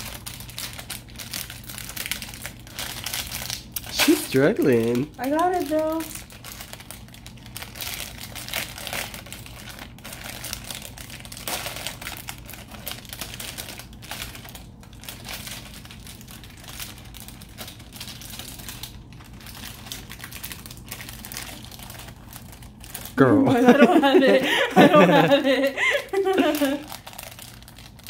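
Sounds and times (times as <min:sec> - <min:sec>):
plastic wrapper crinkling: 0:00.0 - 0:28.0.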